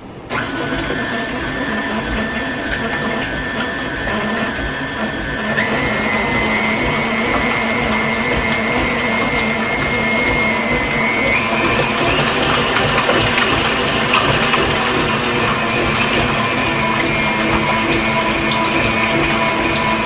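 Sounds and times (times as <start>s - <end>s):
electric mixer motor whining: 0.3s - 20.0s.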